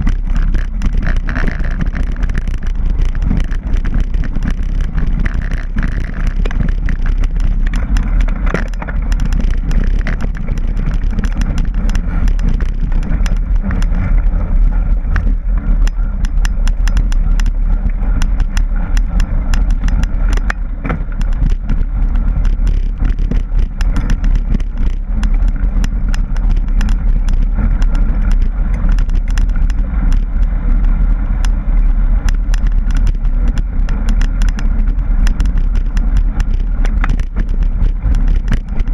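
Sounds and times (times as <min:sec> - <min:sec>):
bike clicking and rattling: 0:00.0 - 0:38.9
wind rumble on microphone: 0:00.0 - 0:38.9.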